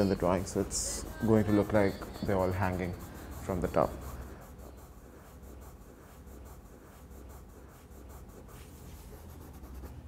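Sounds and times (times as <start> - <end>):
drawing tool scratching paper: 0.0 - 10.0.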